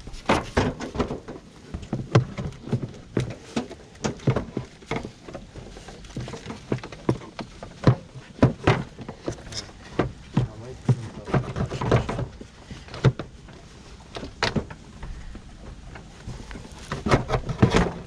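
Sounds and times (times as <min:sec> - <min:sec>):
tools knocking and clunking: 0:00.2 - 0:18.0.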